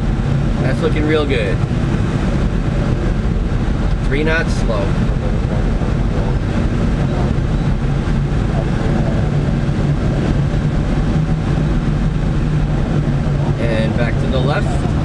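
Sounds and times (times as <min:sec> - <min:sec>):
airflow rushing over canopy: 0:00.0 - 0:15.0
steady low hum: 0:00.0 - 0:15.0.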